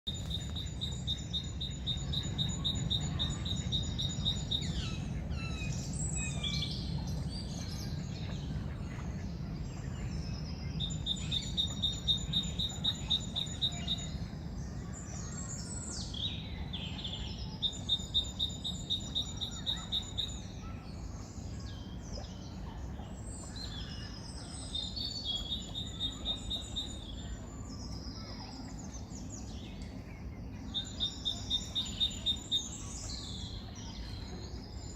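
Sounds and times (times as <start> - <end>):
birds chirping songs: 0.1 - 34.9
steady low rumble: 0.1 - 34.9.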